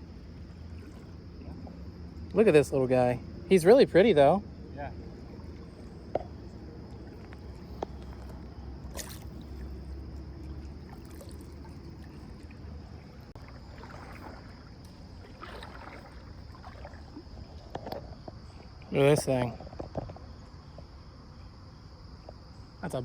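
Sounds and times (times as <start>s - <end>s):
creek water trickling: 0.0s - 23.0s.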